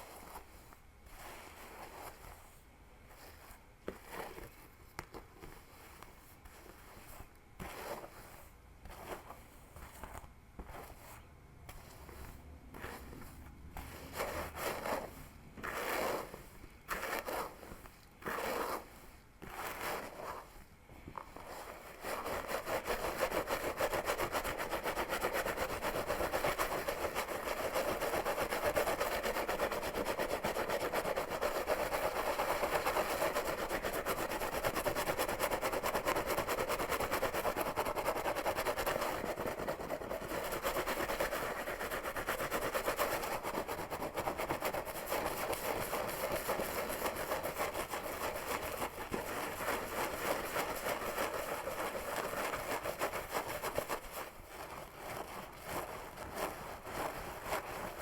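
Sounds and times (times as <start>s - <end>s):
fingers scratching through hair: 6.0s - 20.6s, 21.2s - 58.0s.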